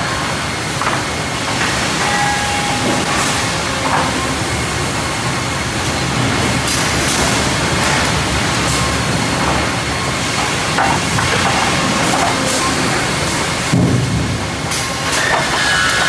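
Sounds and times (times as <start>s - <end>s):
sawmill machinery din: 0.0s - 16.0s.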